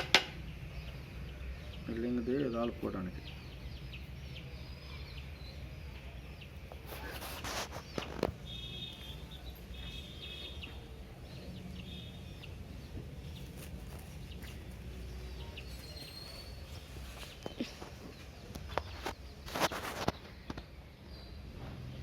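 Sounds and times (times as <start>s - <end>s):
bird chirping in trills: 0.3s - 20.3s.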